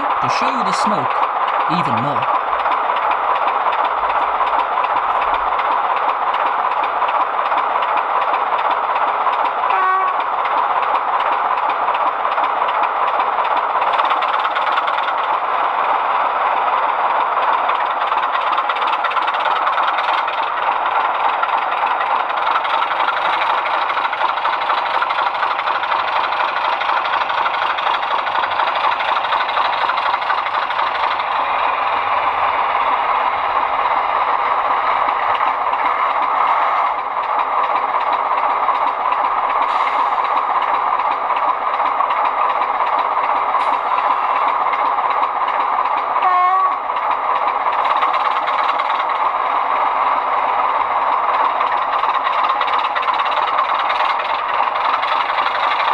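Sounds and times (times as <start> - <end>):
model locomotive diesel engine sound: 0.0 - 55.9.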